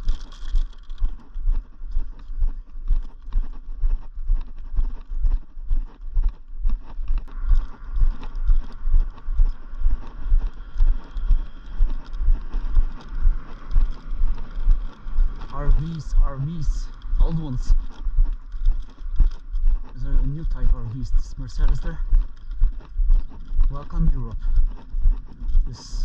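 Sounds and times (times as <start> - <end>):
footsteps walking: 0.0 - 26.0.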